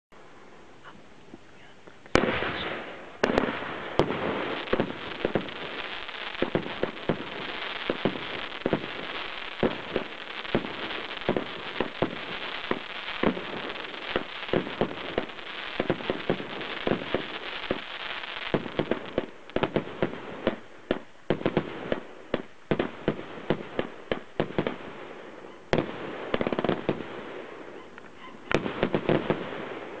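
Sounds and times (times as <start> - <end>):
fireworks crackling: 0.2 - 30.0
fireworks sharp bangs: 2.1 - 30.0.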